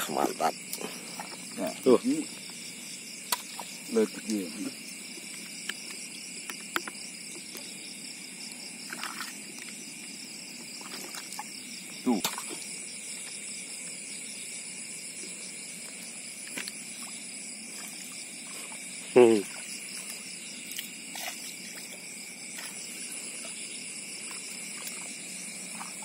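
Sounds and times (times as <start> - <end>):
crickets and insects trilling: 0.0 - 26.0.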